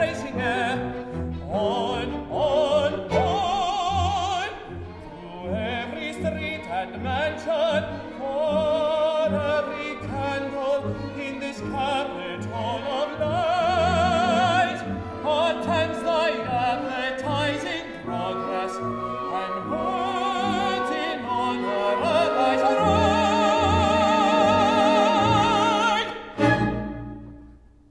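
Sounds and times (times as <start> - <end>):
operatic singing: 0.0 - 27.6
orchestra strings: 0.0 - 27.9.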